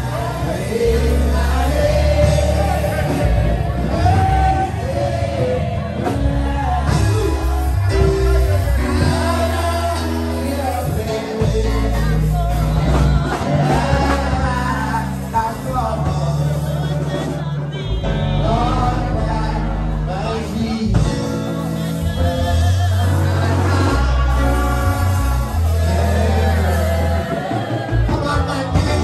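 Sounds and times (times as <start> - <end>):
congregation singing: 0.0 - 29.0
music with heavy bass notes: 0.0 - 29.0.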